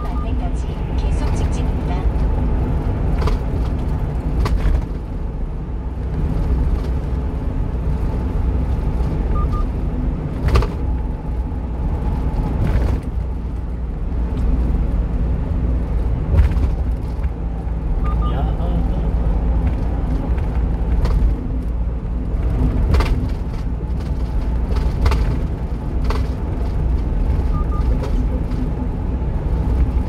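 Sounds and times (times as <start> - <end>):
truck engine and road drone: 0.0 - 30.0.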